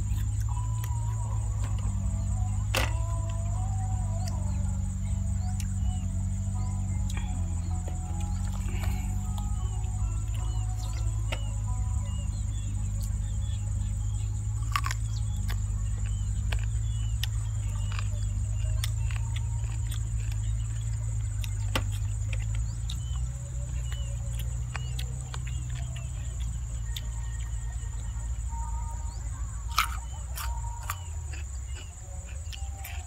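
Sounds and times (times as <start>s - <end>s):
chewing and crunching chicken: 0.0s - 33.0s
high insect drone: 0.0s - 33.0s.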